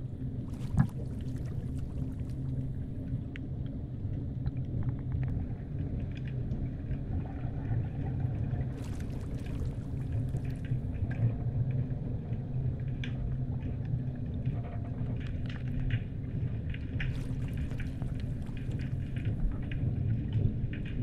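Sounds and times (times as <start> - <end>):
underwater low rumble: 0.0 - 21.0
underwater crackling: 0.2 - 21.0
faint underwater clicks: 0.5 - 21.0.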